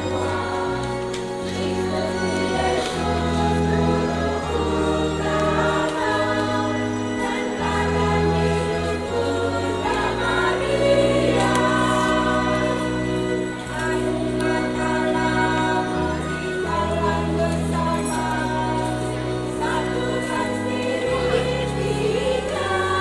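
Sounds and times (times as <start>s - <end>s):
choir singing in parts: 0.0s - 23.0s
organ chords: 0.0s - 23.0s.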